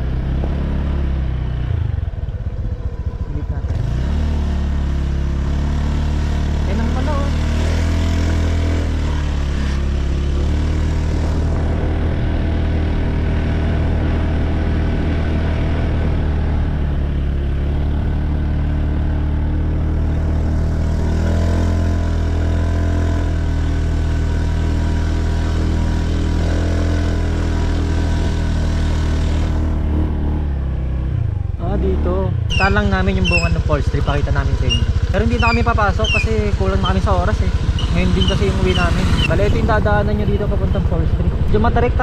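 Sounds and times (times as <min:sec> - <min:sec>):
scooter engine running: 0:00.0 - 0:42.0.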